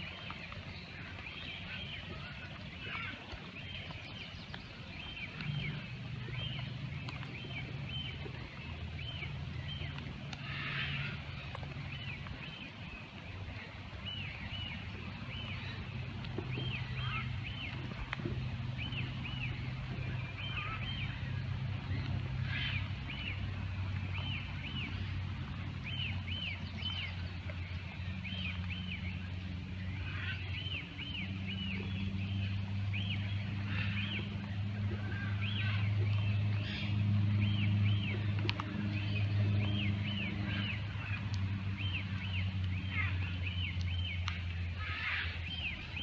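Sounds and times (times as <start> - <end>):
songbird singing: 0.0 - 46.0
steady low hum: 0.0 - 46.0.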